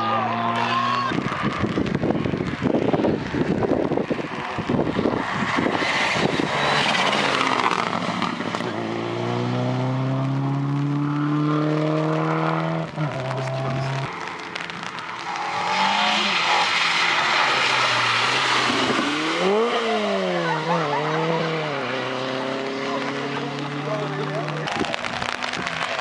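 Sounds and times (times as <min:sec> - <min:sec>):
rally car engine roaring: 0:00.0 - 0:26.0.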